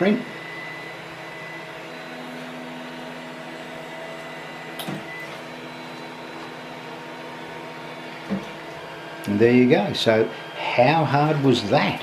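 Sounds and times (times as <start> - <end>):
stepper motors humming: 0.0 - 12.0.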